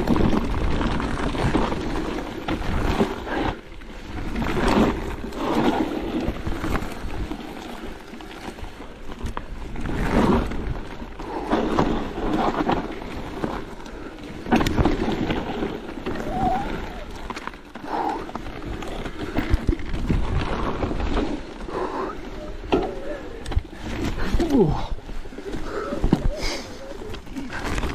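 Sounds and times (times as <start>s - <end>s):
tyre and trail rumble: 0.0s - 27.9s.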